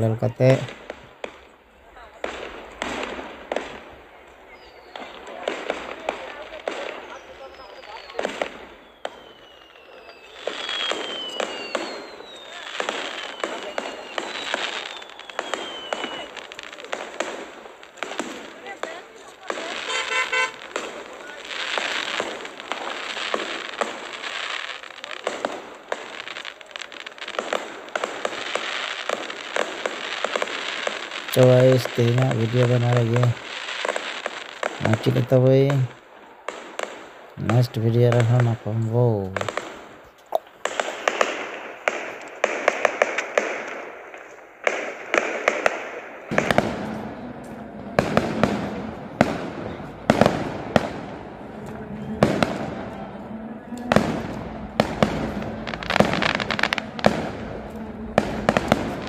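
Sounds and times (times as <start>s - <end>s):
fireworks crackling and popping: 0.0s - 59.0s.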